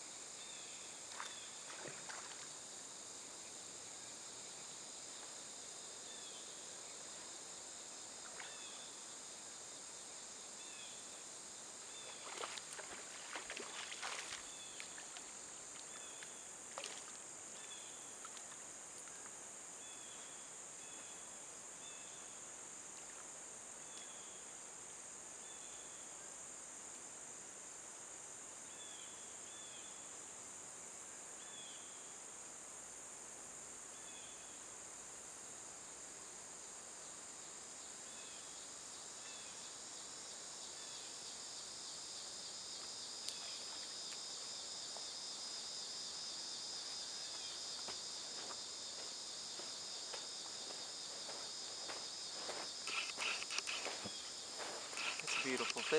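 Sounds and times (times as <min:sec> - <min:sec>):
insect chorus: 0:00.0 - 0:55.9.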